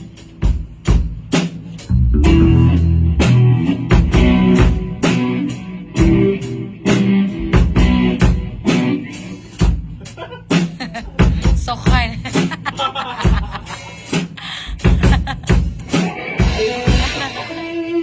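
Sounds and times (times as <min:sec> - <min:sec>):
drums keeping steady beat: 0:00.0 - 0:17.8
rock band playing: 0:00.0 - 0:18.0.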